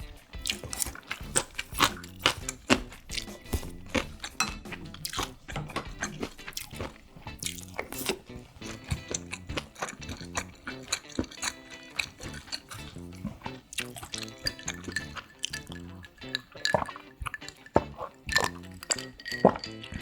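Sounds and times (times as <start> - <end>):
utensils clicking on dishes: 0.0 - 20.0
wet chewing: 0.0 - 20.0.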